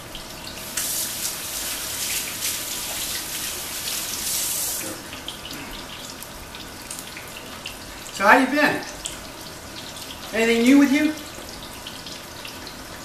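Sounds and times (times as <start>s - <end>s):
water running into a metal sink: 0.0s - 13.0s.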